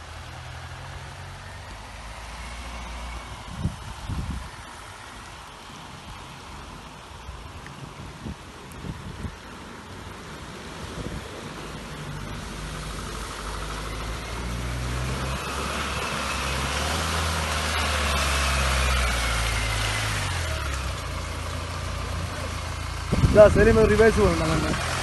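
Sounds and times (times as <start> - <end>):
jeep engine pulling uphill: 0.0 - 25.0.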